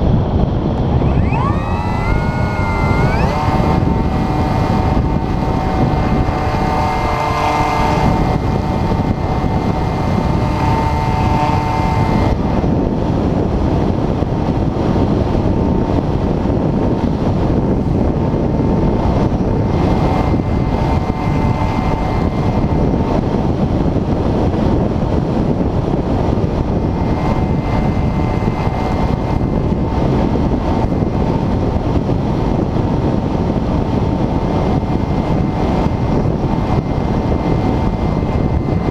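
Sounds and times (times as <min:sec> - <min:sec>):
faint motor whine: 0:00.0 - 0:38.9
wind rushing over camera: 0:00.0 - 0:38.9.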